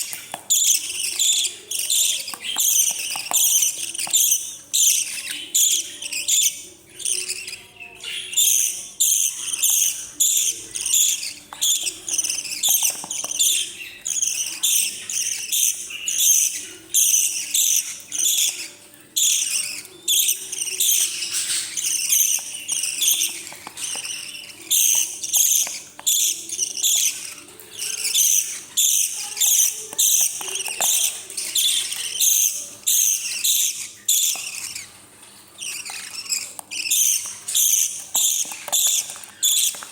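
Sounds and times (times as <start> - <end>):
baby parrots begging calls: 0.0 - 39.9.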